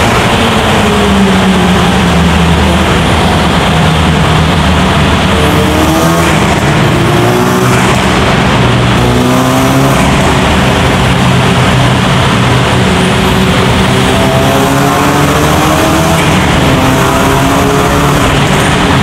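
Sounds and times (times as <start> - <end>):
car engine running loud: 0.0 - 19.0.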